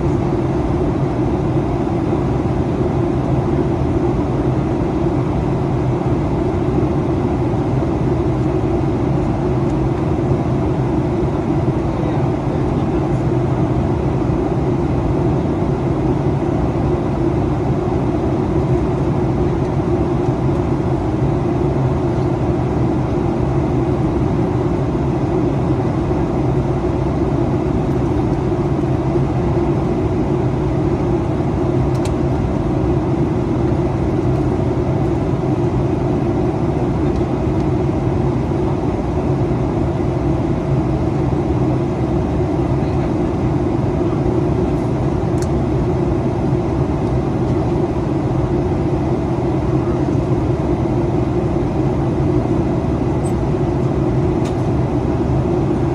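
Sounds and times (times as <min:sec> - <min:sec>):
airplane cabin engine roar: 0:00.0 - 0:55.9.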